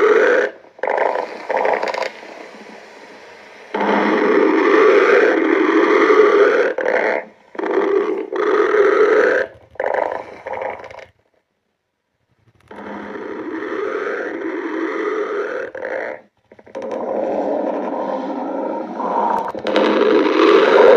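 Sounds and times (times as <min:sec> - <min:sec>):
stomach growling and gurgling: 0:00.0 - 0:02.8, 0:03.7 - 0:11.5, 0:12.2 - 0:20.9.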